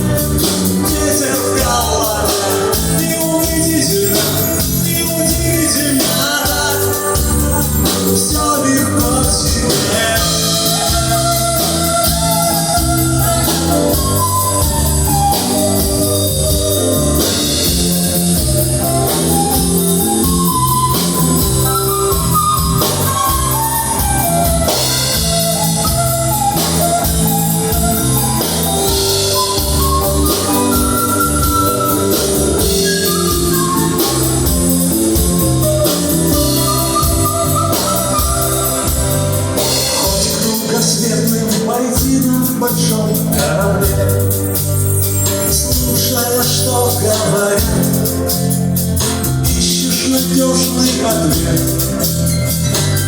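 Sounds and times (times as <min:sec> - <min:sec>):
bass: 0:00.0 - 0:53.0
drum kit beat: 0:00.0 - 0:53.0
electric guitar lead: 0:00.0 - 0:53.0.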